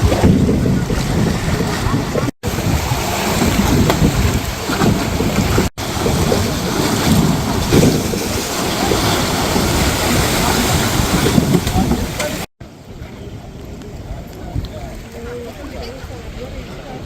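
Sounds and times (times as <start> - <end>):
breaking surf: 0.0 - 17.0
wind buffeting microphone: 0.0 - 17.0.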